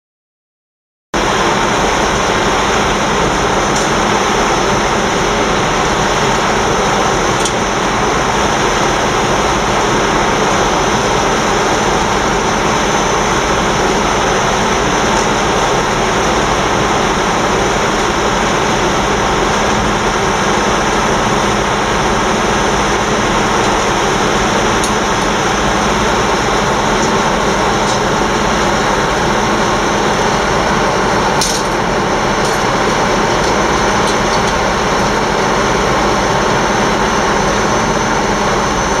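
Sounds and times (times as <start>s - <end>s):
diesel locomotive idling: 1.2s - 39.0s.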